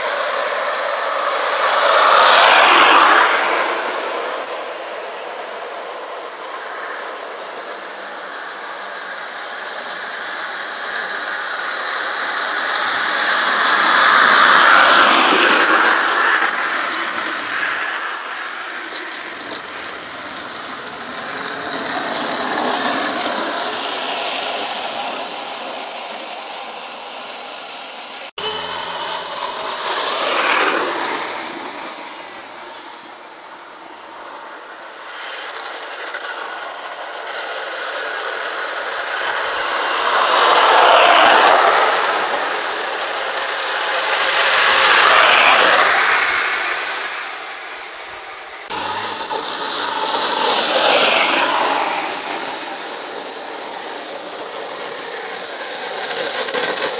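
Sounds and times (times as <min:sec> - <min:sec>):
wooden go-carts rattling on asphalt: 0:09.0 - 0:33.1, 0:34.0 - 0:47.8, 0:48.6 - 0:56.9.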